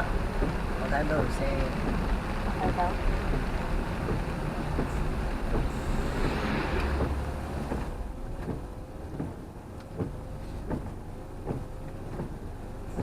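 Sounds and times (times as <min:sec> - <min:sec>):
road noise hiss on wet road: 0:00.0 - 0:13.0.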